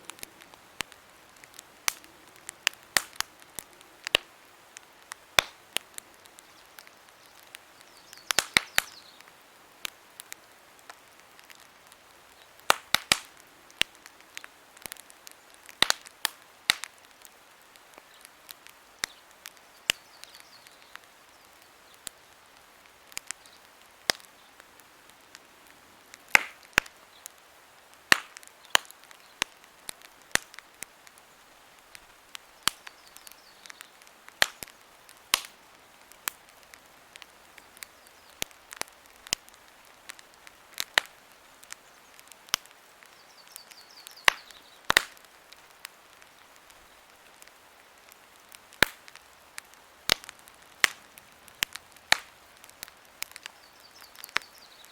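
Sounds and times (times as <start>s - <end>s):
campfire crackling: 0.0s - 54.9s
faint steady hiss: 0.0s - 54.9s.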